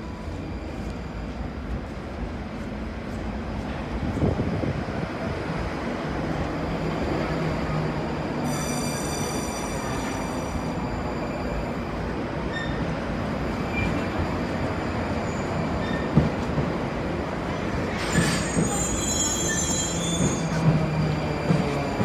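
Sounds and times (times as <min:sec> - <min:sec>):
metro train wheels rumbling on rail: 0:00.0 - 0:22.0.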